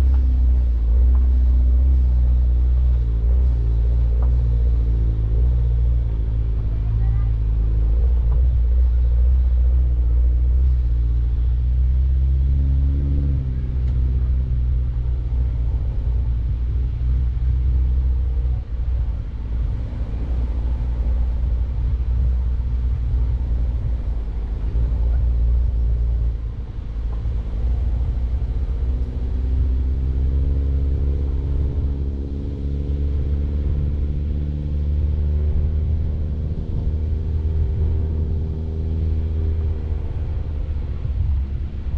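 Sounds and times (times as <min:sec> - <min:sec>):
car engine rumbling: 0:00.0 - 0:41.9.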